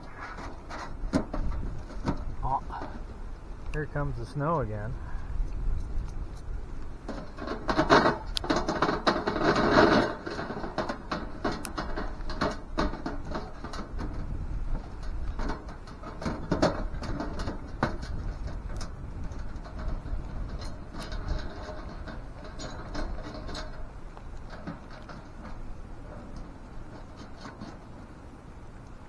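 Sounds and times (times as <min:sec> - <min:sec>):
wind rumble on microphone: 0:00.0 - 0:29.0
small clicks taps and rattles: 0:05.5 - 0:29.0.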